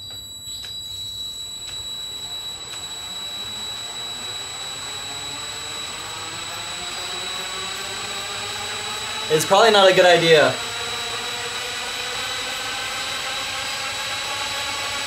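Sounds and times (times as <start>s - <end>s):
cordless drill whining: 0.0s - 15.0s.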